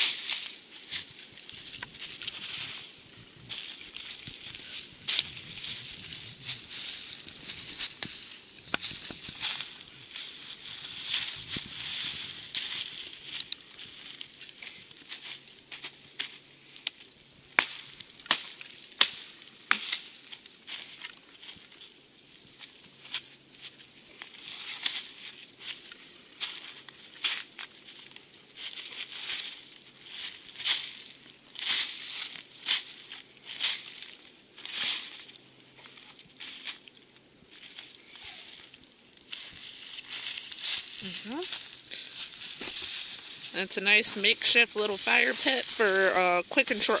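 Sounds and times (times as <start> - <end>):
dry leaves crunching and rustling: 0.0 - 47.0.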